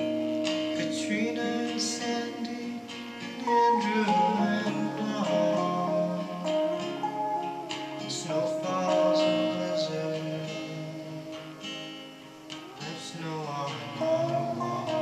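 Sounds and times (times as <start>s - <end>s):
acoustic guitar strumming: 0.0s - 15.0s
electric guitar lead melody: 0.0s - 15.0s.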